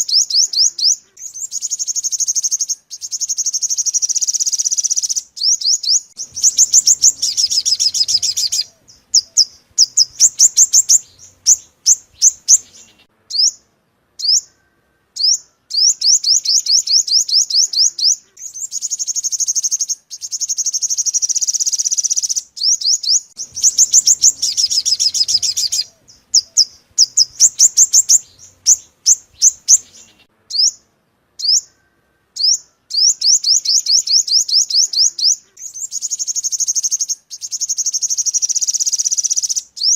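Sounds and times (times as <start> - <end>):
bird high-pitched trills: 0.0 - 39.9.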